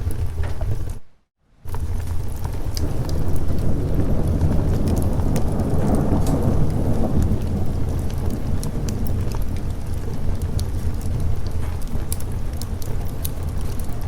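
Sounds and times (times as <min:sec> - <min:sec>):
steady rain: 0:00.0 - 0:14.0
low thunder rumble: 0:01.6 - 0:14.0.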